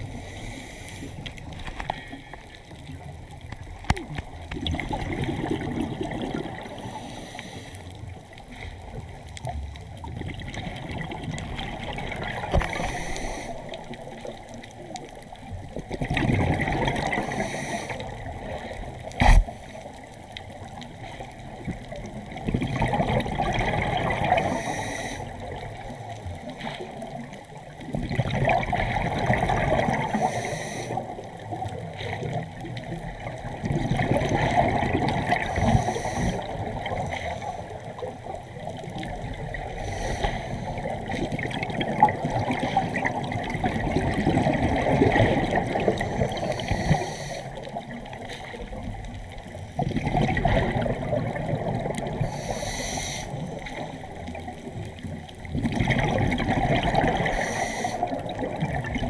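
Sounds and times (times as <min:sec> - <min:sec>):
moving water: 0:00.0 - 0:59.0.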